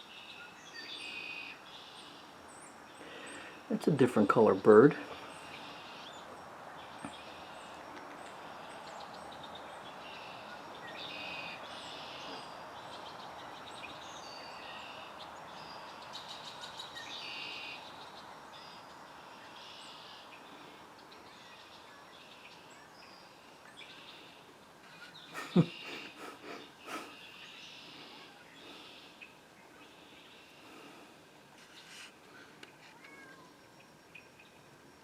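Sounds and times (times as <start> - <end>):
background hiss: 0.0 - 35.0
songbirds singing and chirping: 0.0 - 35.0.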